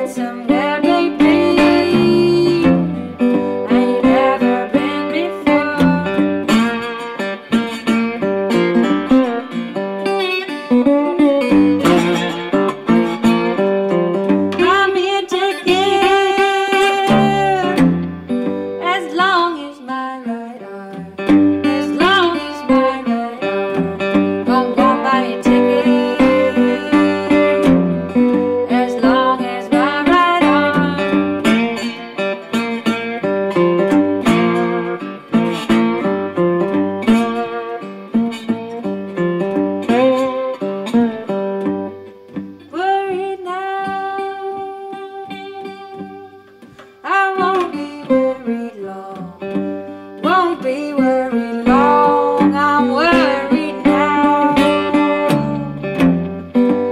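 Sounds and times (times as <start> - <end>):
resonator guitar blues: 0.0 - 56.9.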